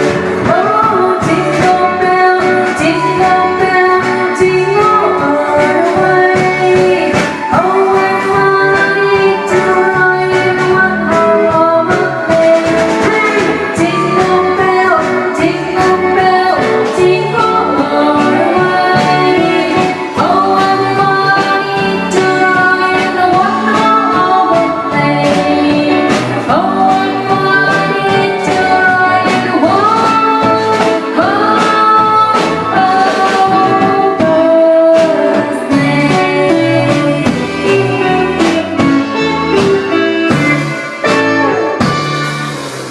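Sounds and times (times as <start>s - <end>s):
person singing: 0.0s - 42.4s
drums keeping a steady beat: 0.0s - 42.9s
live band music: 0.0s - 42.9s.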